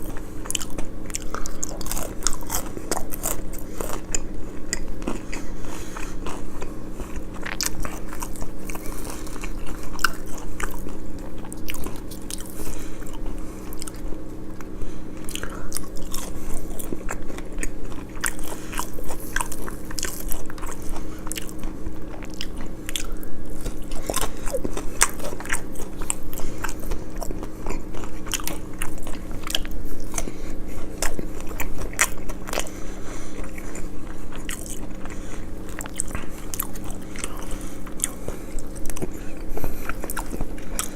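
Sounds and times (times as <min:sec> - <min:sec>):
chewing crunchy food: 0:00.0 - 0:40.9
steady low hum: 0:00.0 - 0:40.9.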